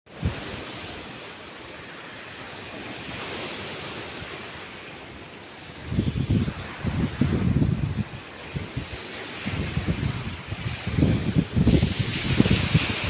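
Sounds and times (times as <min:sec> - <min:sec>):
sea surf washing onto beach: 0:00.1 - 0:13.0
wind buffeting microphone: 0:00.1 - 0:13.0.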